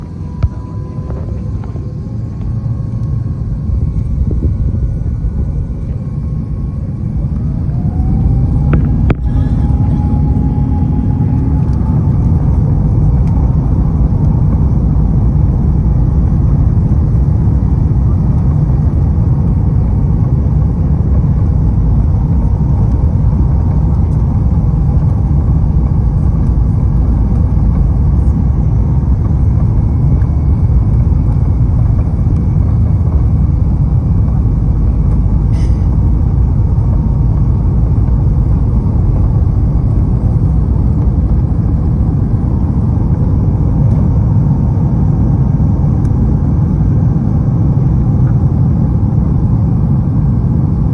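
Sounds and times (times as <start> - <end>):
jet engines spooling up: 0.0 - 48.7
takeoff roll rumble in cabin: 0.0 - 50.9.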